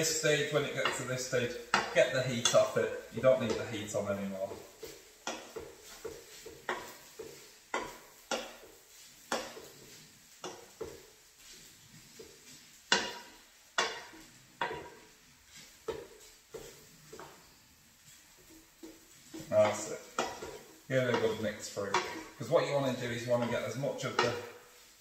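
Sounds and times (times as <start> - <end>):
faint sizzle: 0.0 - 25.0
wooden spoon knocking on pan: 0.5 - 11.6, 12.2 - 17.4, 18.0 - 24.9.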